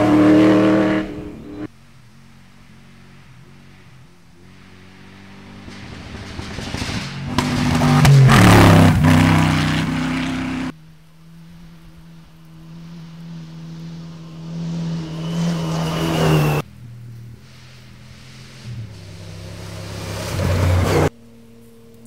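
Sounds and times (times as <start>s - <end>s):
rally car engine passing by: 0.0s - 21.9s.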